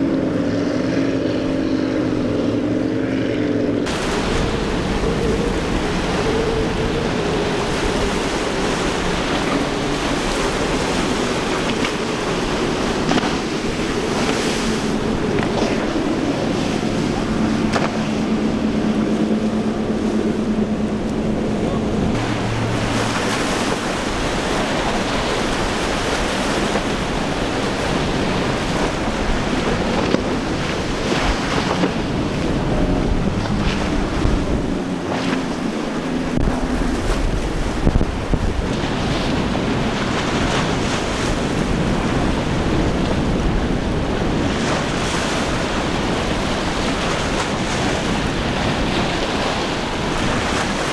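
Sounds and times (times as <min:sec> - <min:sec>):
boat engines droning: 0:00.0 - 0:50.9
waves and wake rushing: 0:00.0 - 0:50.9
wind buffeting microphone: 0:00.0 - 0:50.9.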